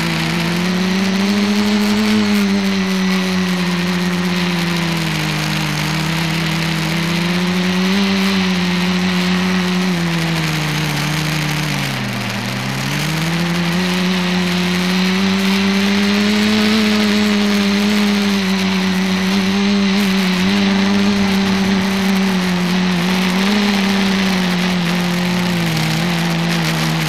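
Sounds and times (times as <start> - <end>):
multicopter propellers droning: 0.0 - 27.0.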